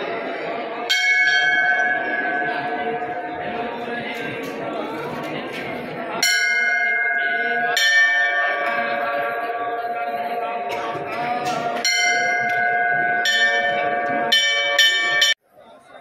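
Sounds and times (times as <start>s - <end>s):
temple bell ringing: 0.1s - 15.4s.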